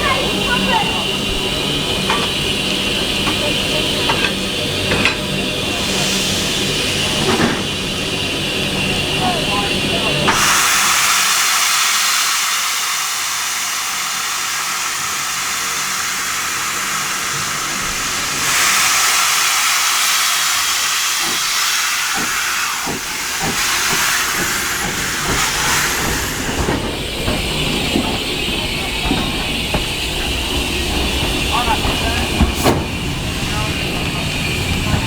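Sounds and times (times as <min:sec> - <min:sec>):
steam locomotive hissing steam: 0:00.0 - 0:35.0.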